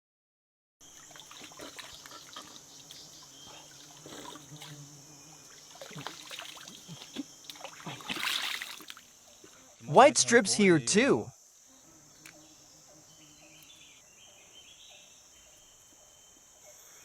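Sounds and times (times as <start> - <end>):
insect drone: 0.8 - 17.0.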